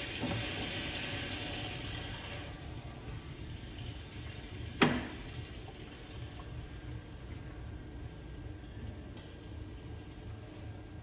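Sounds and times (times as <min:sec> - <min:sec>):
water rushing through cooling system: 0:00.0 - 0:11.0.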